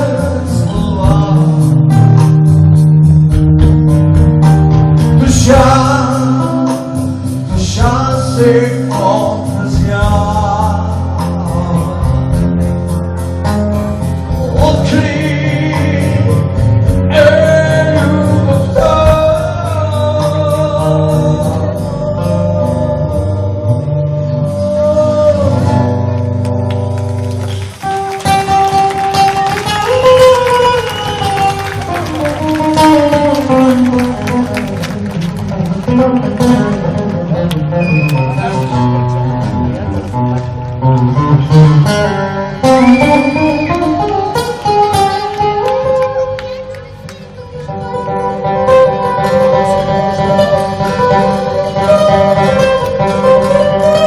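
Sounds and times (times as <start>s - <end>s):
live rock band with guitar: 0.0s - 54.0s.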